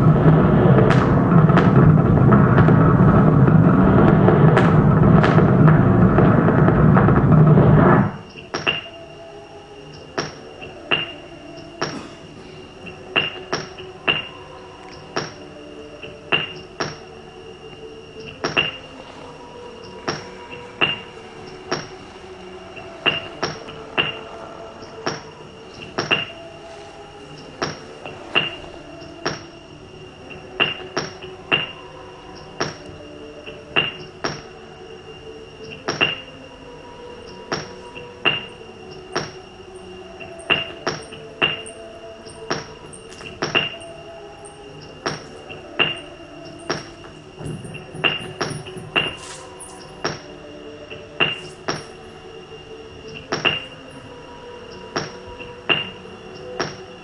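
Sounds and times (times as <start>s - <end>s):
sustained low tones: 0.0s - 57.0s.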